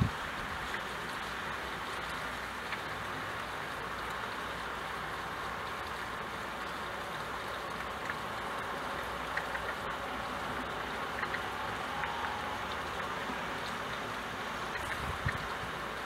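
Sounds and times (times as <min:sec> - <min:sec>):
rain on a window: 0:00.0 - 0:16.0
drops ticking: 0:00.3 - 0:16.0.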